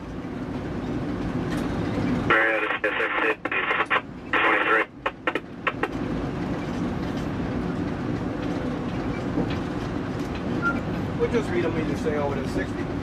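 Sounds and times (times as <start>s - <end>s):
locomotive engine and wheels drone: 0.0s - 13.0s.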